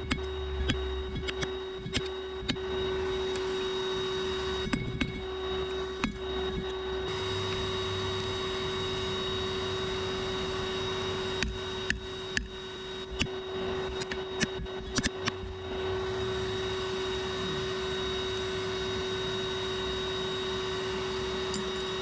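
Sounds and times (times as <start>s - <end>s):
electric blower humming: 0.0s - 22.0s.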